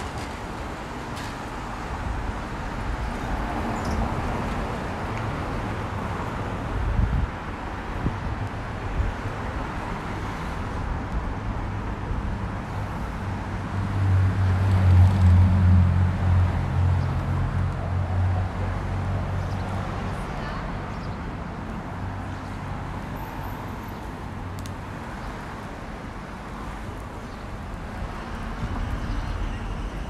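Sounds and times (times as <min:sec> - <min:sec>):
road traffic passing: 0:00.0 - 0:30.0.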